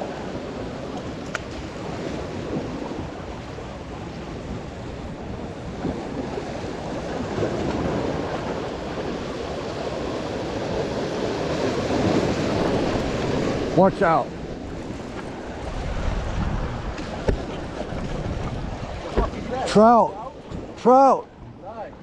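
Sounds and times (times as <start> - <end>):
sea waves breaking on rocks: 0.0 - 22.0.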